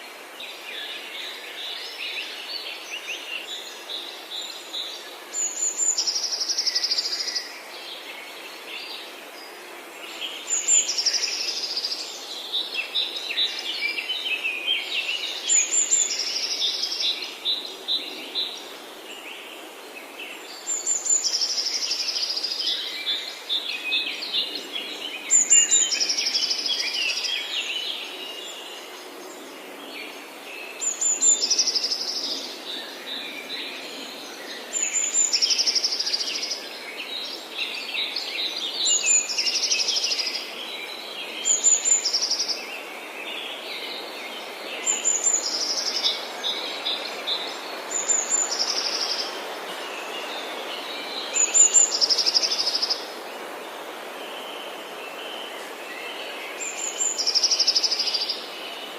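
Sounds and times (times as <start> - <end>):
songbird singing: 0.0 - 58.9
steady hiss: 0.0 - 58.9.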